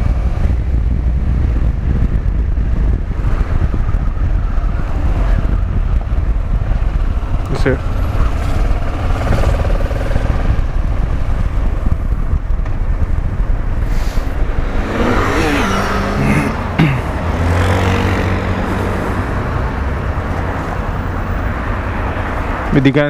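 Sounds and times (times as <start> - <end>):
wind rushing on microphone: 0.0 - 23.0.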